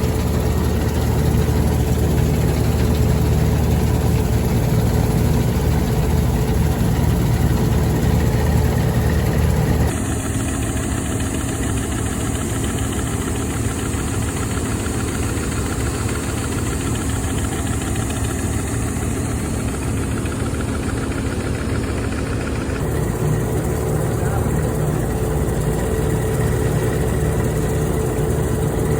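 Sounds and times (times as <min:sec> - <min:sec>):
combine harvester engine running: 0:00.0 - 0:28.9.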